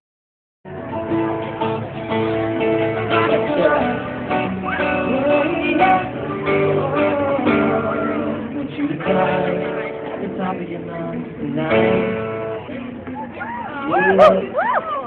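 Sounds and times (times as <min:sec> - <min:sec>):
strummed acoustic guitar: 0:00.7 - 0:14.5.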